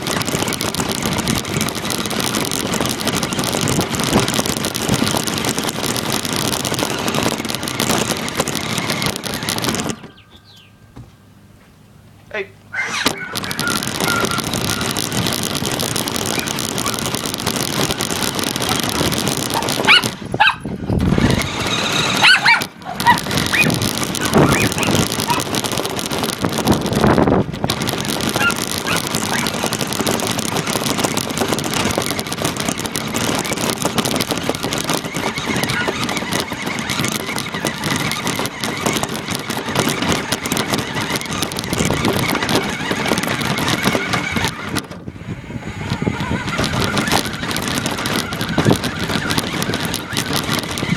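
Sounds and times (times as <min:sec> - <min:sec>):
rc car rattling and motor noise: 0:00.0 - 0:10.7, 0:12.8 - 0:50.9.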